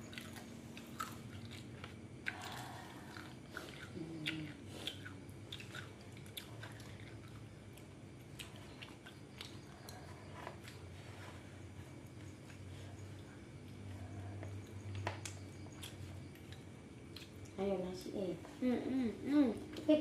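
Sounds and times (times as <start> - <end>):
chewing and crunching food: 0.0 - 17.7.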